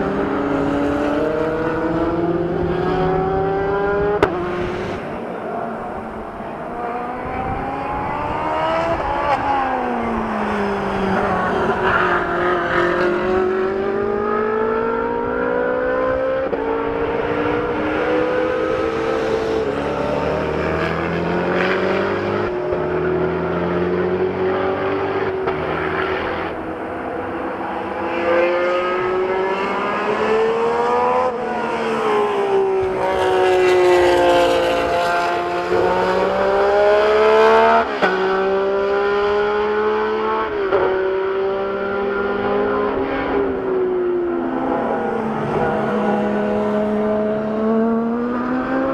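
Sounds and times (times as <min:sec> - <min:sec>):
supercar engines revving: 0:00.0 - 0:48.9.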